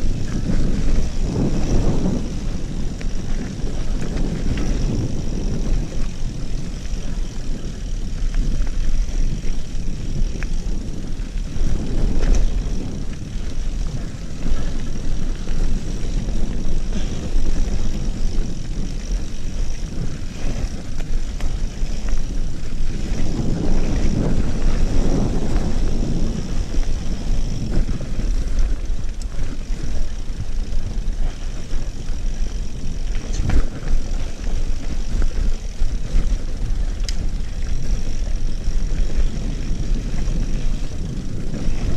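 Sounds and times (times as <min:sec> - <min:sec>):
bike knocking and rattling: 0:00.0 - 0:41.9
bike tyres rolling on dirt: 0:00.0 - 0:41.9
wind rushing over microphone: 0:00.0 - 0:41.9.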